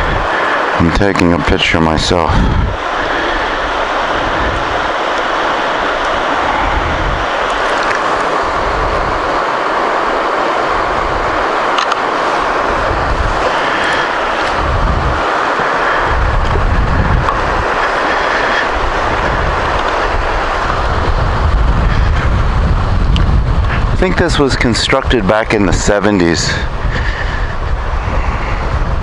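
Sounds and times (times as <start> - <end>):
river water rushing over rocks: 0.0 - 29.0
wind buffeting microphone: 0.0 - 29.0.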